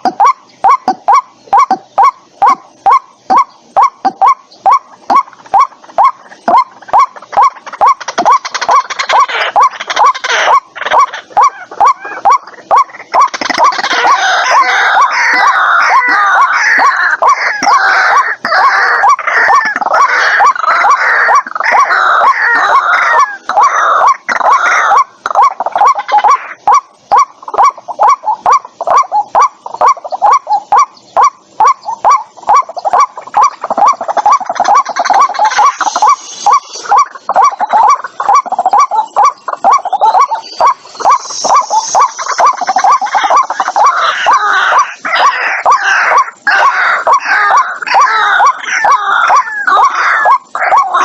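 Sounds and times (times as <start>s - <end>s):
waterhen calling: 0.0s - 51.0s.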